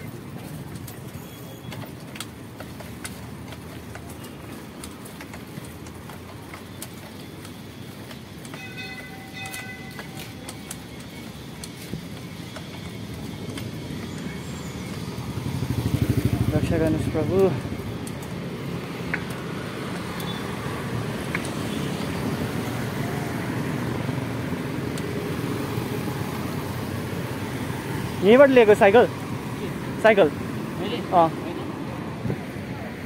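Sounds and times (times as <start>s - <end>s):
bike rattling clicks: 0.0s - 29.6s
bike tyres rumbling on concrete: 0.0s - 33.0s.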